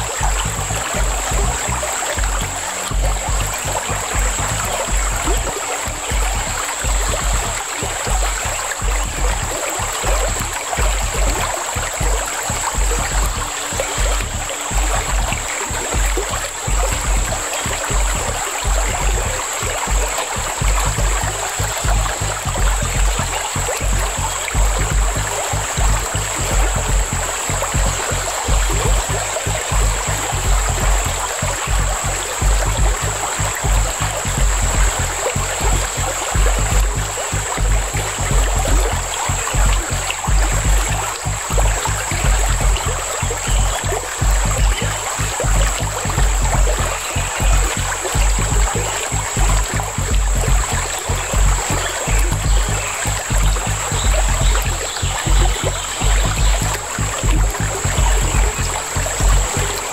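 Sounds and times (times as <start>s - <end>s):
music with a bass beat: 0.0s - 59.9s
river water rushing: 0.0s - 59.9s.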